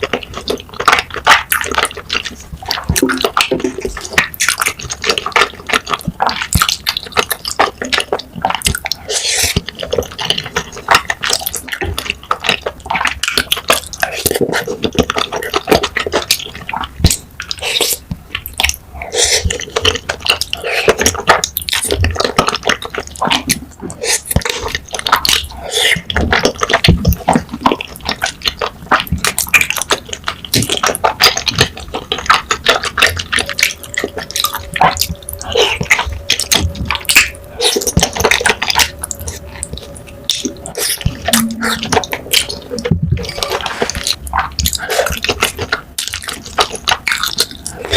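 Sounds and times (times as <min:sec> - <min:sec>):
wet chewing and lip-smacking: 0:00.0 - 0:47.9.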